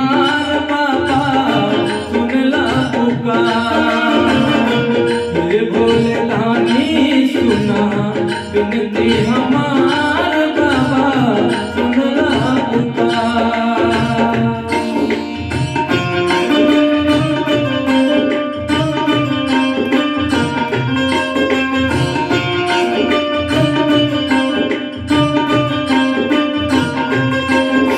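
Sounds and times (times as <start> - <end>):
looped tabla drum rhythm: 0.0 - 27.9
man singing into a microphone: 0.0 - 27.9
sustained keyboard melody: 0.0 - 27.9.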